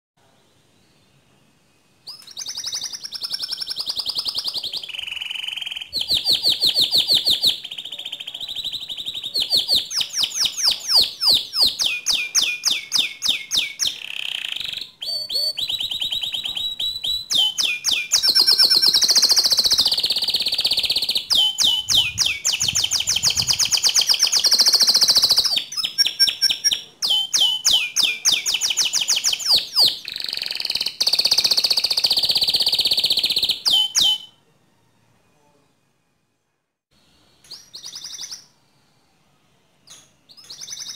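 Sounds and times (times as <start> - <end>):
canary singing rapid trills: 2.1 - 34.3, 37.5 - 38.6, 40.4 - 40.9.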